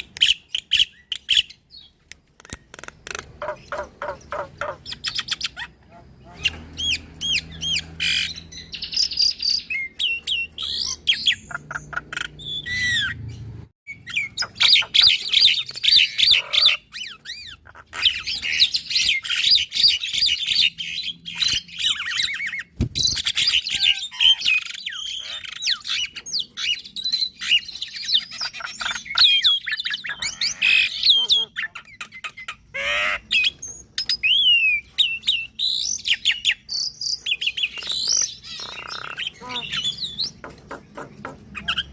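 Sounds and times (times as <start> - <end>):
harsh bird squawks: 2.4 - 13.3, 13.9 - 33.6, 37.4 - 41.9
mynas chirping and whistling: 3.4 - 41.9.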